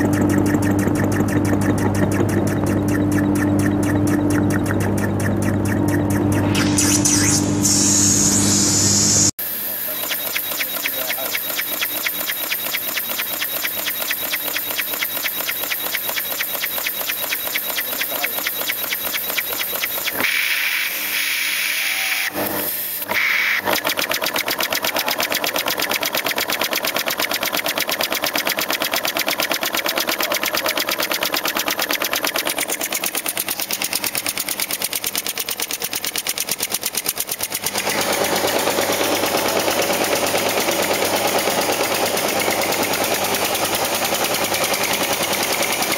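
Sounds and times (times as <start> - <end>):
compressed-air engine chattering: 0.0 - 8.4, 9.9 - 20.3, 23.7 - 45.9.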